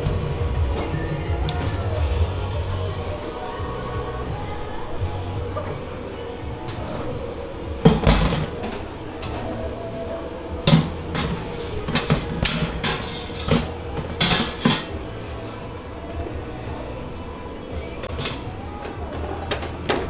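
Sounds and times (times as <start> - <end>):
pots and crockery clattering: 0.0 - 20.0.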